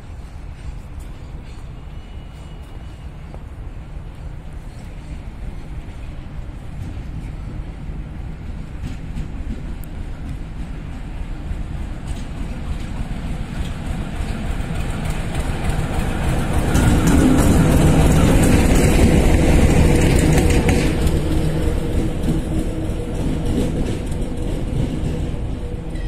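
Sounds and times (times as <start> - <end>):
locomotive engine drone: 0.0 - 26.0
wheel and rail noise: 0.0 - 26.0.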